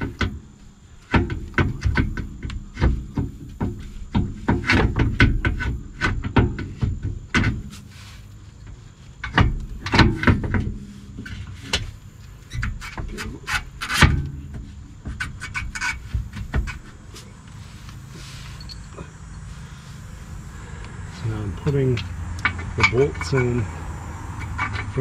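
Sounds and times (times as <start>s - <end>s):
metal parts clunking and scraping: 0.0s - 20.2s, 21.2s - 25.0s.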